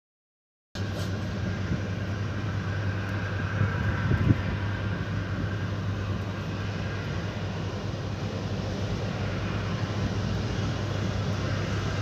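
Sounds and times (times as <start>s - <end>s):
distant jet airliner droning: 0.8s - 12.0s.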